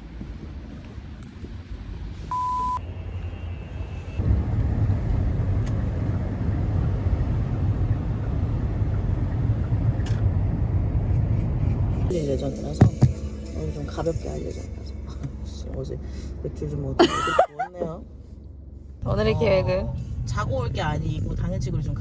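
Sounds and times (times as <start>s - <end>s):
vehicle road noise rumble: 0.0s - 22.0s.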